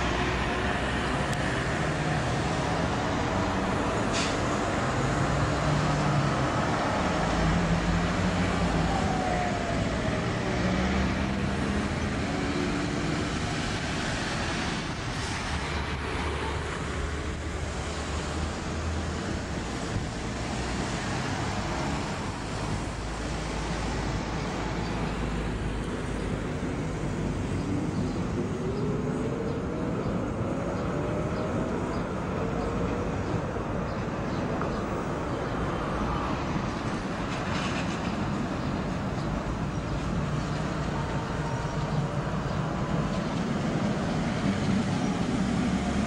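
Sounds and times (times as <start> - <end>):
city traffic: 0.0 - 46.0
tram motors humming and whining: 0.0 - 46.0.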